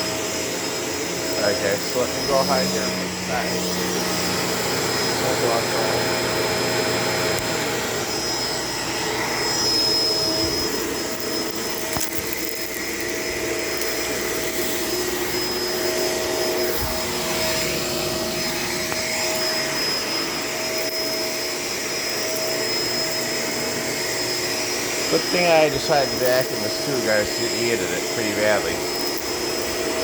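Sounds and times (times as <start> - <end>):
vacuum cleaner motor whine: 0.0 - 30.0.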